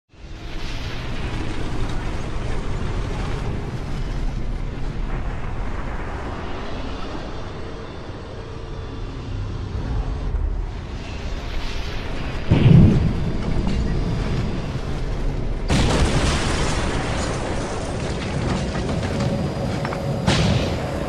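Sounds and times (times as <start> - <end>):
dense rumbling roar: 0.7 - 21.0.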